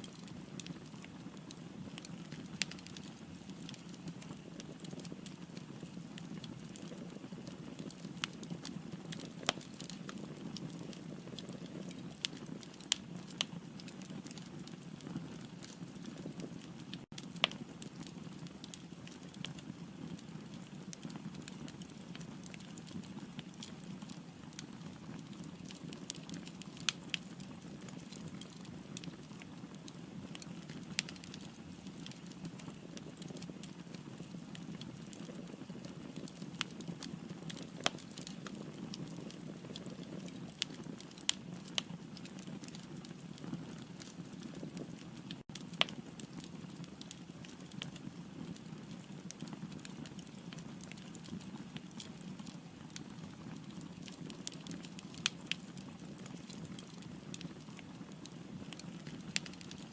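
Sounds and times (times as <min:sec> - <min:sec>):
fire burning: 0:00.0 - 0:59.9
wood crackling and popping: 0:00.0 - 0:59.9.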